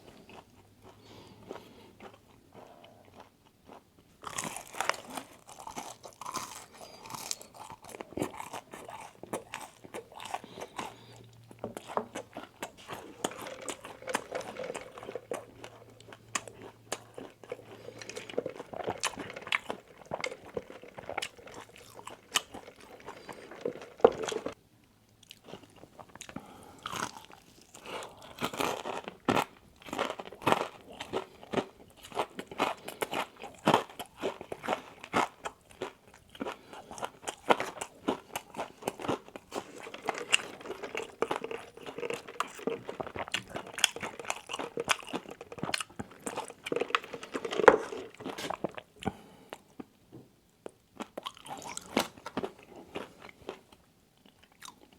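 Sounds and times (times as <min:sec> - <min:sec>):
crunchy food chewing: 0:00.0 - 0:24.6, 0:25.2 - 0:50.0, 0:50.6 - 0:54.9.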